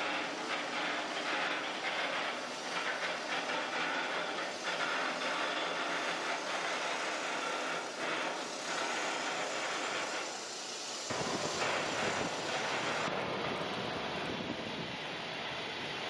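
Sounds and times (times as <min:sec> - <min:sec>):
rail cart running: 0:00.0 - 0:16.0.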